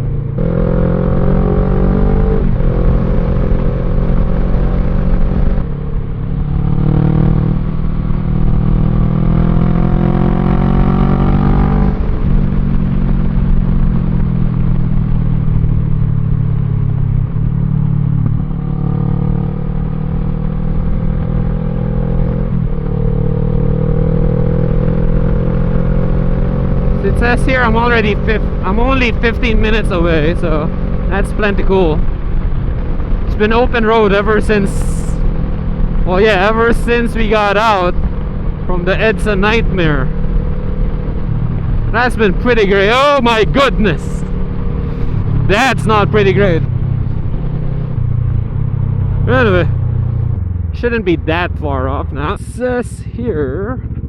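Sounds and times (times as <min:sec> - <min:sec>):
motorcycle engine revving through gears: 0:00.0 - 0:54.0
wind and road rumble: 0:00.0 - 0:54.0.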